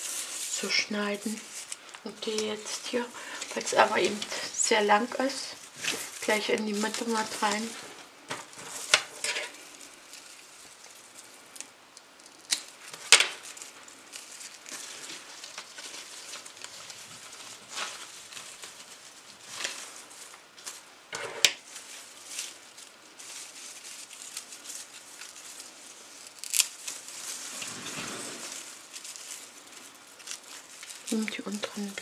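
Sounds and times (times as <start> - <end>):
leaves rustling: 0.0 - 32.0.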